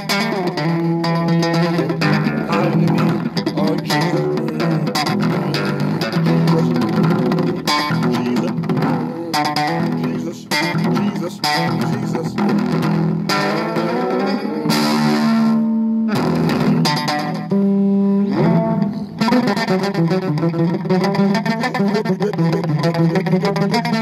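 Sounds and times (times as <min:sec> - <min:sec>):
electric bass guitar with effects: 0:00.0 - 0:24.0.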